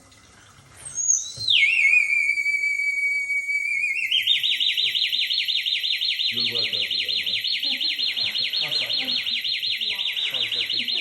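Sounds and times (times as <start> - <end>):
alarm-like whistle warbling: 0.9 - 11.0.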